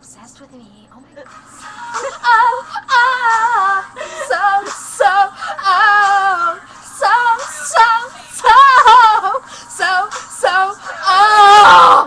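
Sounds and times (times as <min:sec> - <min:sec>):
girls singing in high voices: 0:01.9 - 0:12.0.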